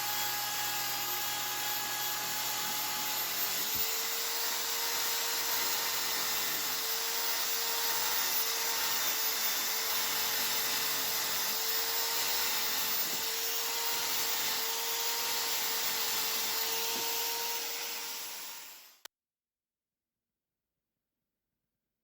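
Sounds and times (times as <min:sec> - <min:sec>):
small electric tool whining: 0:00.0 - 0:19.1.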